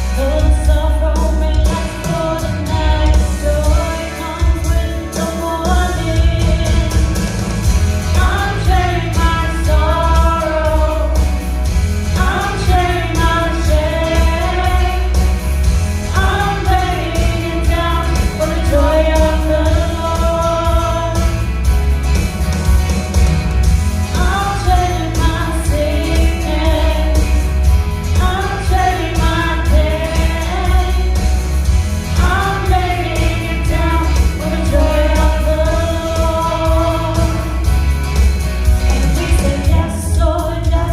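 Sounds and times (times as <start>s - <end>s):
voices singing: 0.0s - 7.4s, 8.1s - 21.6s, 24.2s - 37.7s
band with strong bass: 0.0s - 40.9s.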